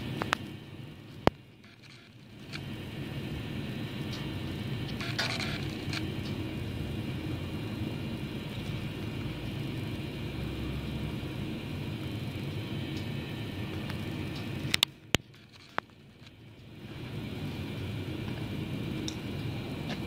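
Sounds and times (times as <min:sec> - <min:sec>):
low rumble and hiss: 0:00.0 - 0:20.0.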